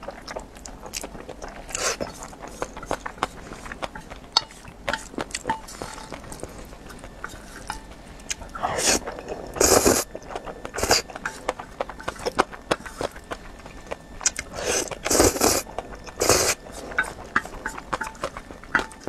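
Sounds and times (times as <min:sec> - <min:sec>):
noodles being slurped: 0:00.0 - 0:19.0
wet chewing: 0:00.0 - 0:19.0.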